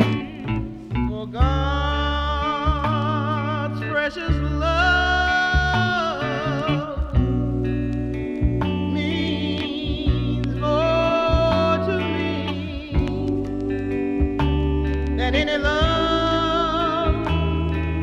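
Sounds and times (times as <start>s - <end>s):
soul gospel record: 0.0s - 18.0s.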